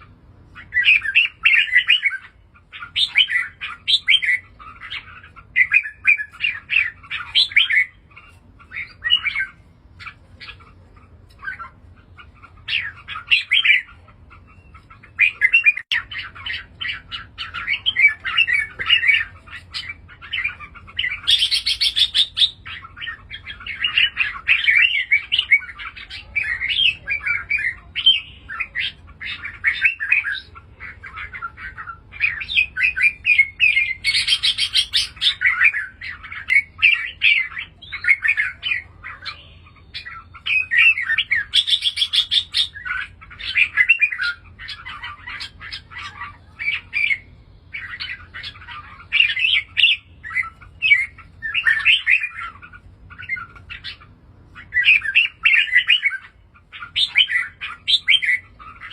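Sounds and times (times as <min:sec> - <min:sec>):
bulbul chirping song: 0:00.0 - 0:58.9.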